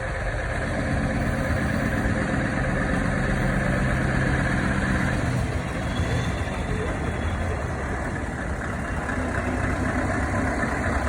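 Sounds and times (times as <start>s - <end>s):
diesel truck engine humming: 0.0s - 11.0s.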